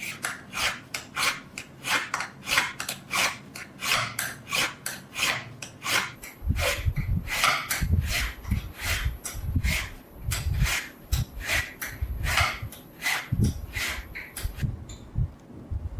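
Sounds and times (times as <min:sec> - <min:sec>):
file rasping on steel blade: 0:00.0 - 0:14.6.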